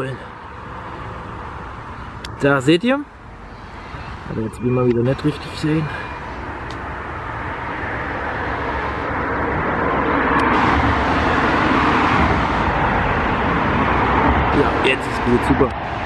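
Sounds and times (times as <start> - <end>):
passing vehicle tyre and engine noise: 0.0 - 16.0.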